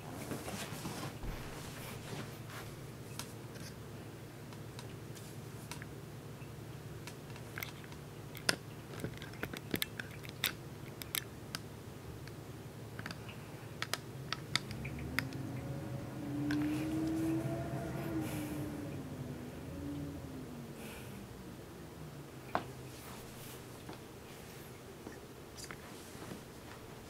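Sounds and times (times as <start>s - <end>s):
humidifier humming: 0.0s - 27.0s.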